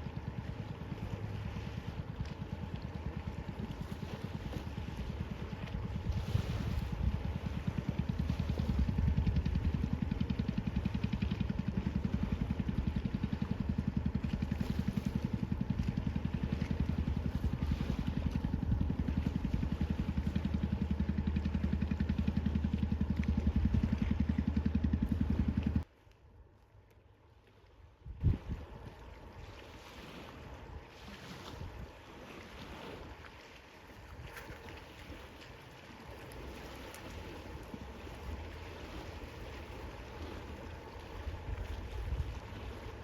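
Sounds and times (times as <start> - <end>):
boat engine running: 0.0 - 25.9, 28.1 - 43.0.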